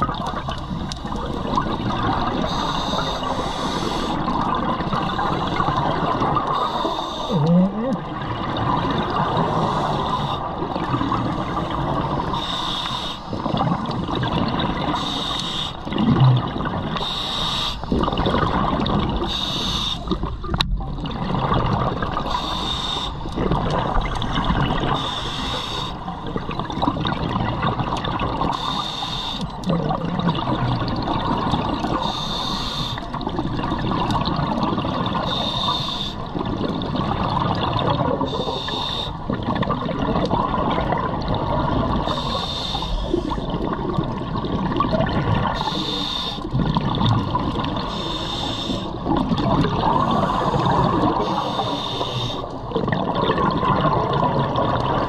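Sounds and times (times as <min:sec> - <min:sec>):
regulator breath hiss and bubbles: 0:00.0 - 0:55.0
underwater bubbling: 0:00.0 - 0:55.0.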